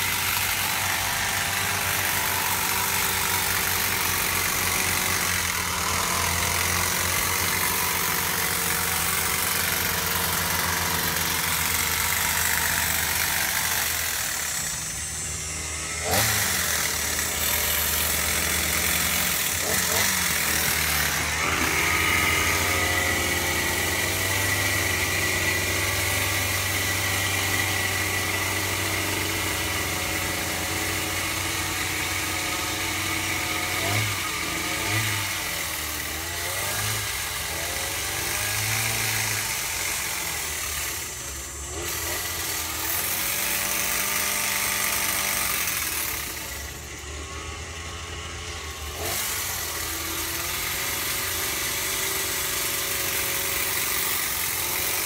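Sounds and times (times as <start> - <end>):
engine revving: 0.0 - 55.0
hedge trimmer engine idling: 0.0 - 55.0.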